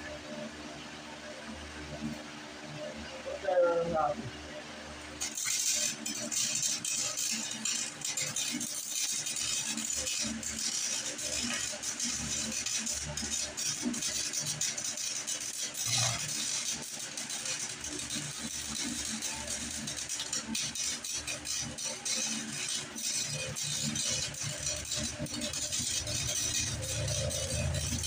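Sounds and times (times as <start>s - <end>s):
welding arc crackling: 5.2s - 28.0s.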